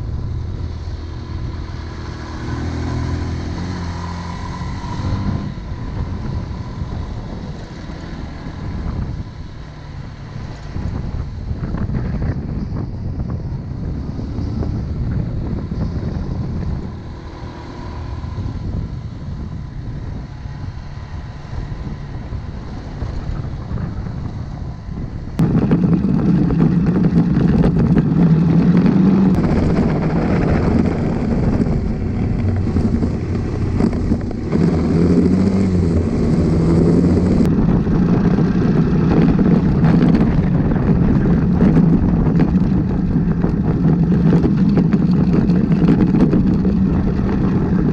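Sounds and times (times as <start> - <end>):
motorcycle engine running: 0.0 - 47.9
wind on microphone: 0.0 - 47.9.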